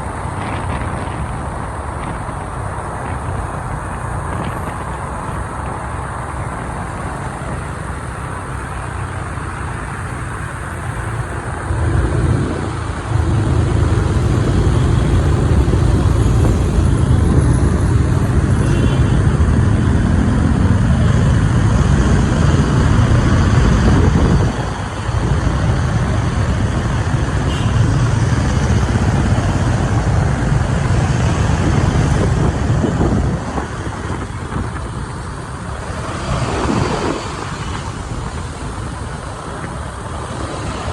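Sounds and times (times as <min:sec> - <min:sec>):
motorbike engine: 0:00.0 - 0:40.9
road and traffic noise: 0:00.0 - 0:40.9.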